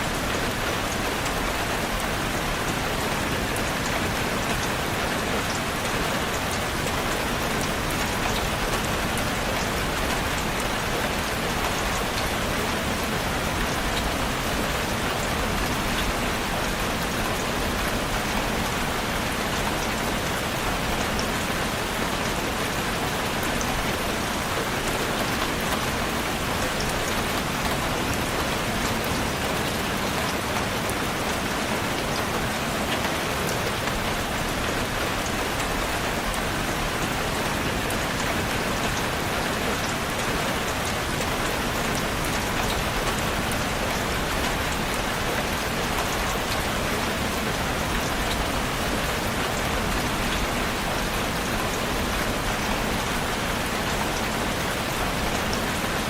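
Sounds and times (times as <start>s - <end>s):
rain hissing and pattering: 0.0s - 56.0s.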